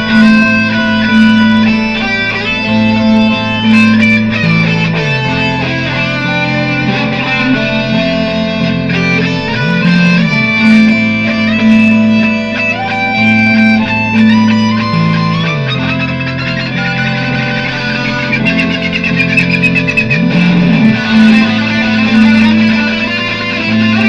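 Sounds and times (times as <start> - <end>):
looped electric guitar riff: 0.0 - 24.0
sliding lead guitar notes: 0.0 - 24.0.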